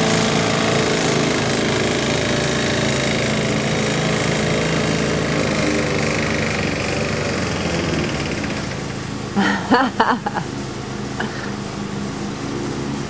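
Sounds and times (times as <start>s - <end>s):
lawnmower petrol engine running: 0.0s - 13.0s.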